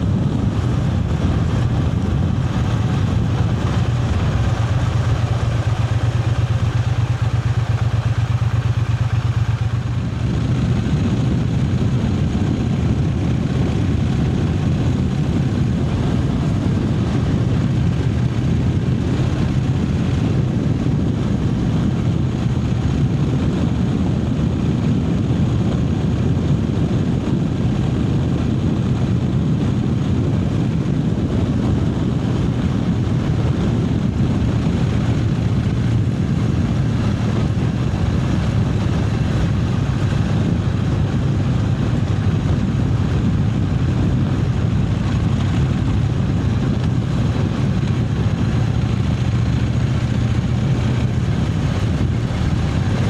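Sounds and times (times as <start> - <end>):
motorcycle engine cruising: 0.0 - 27.3, 28.3 - 53.0
rush of air and road noise: 0.0 - 53.0.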